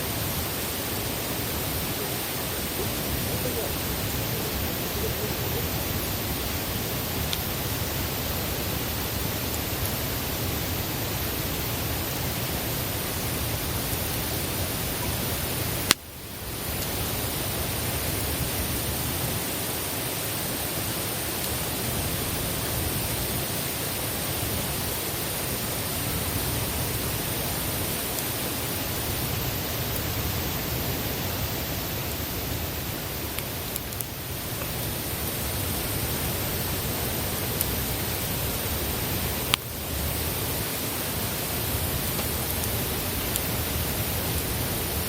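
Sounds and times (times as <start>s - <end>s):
campfire hissing: 0.0s - 45.0s.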